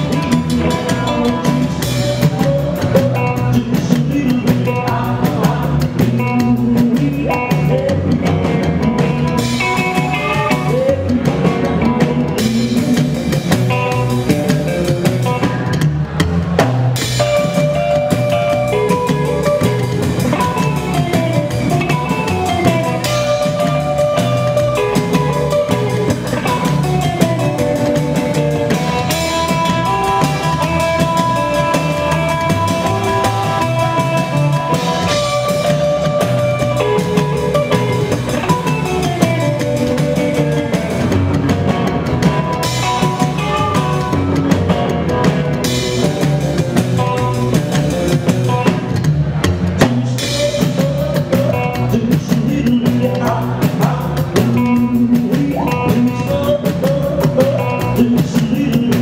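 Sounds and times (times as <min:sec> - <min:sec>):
drum kit steady beat: 0:00.0 - 0:59.0
electric guitar: 0:00.0 - 0:59.0
rock and roll band playing: 0:00.0 - 0:59.0.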